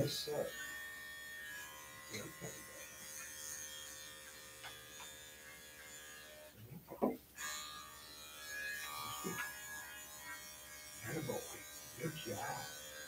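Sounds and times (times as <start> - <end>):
electric clippers humming: 0.0 - 6.6, 7.4 - 13.0.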